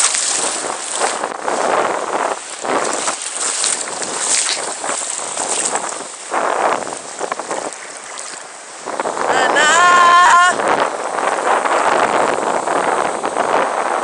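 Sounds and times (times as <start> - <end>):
seawater splashing: 0.0 - 14.0.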